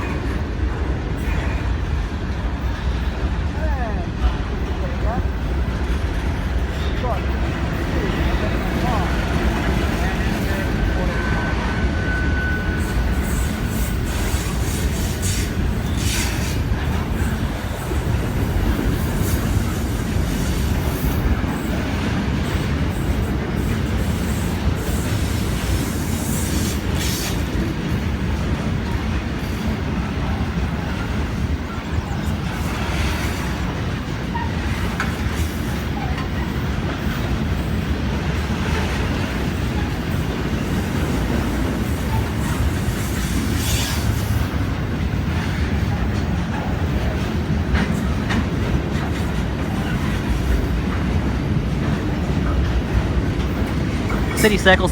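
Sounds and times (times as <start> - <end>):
train rumbling on track: 0.0 - 54.9.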